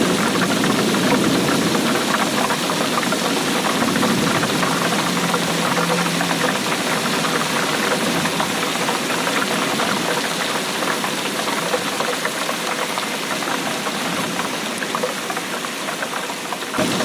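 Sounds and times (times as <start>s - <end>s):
rainfall patter: 0.0s - 17.0s.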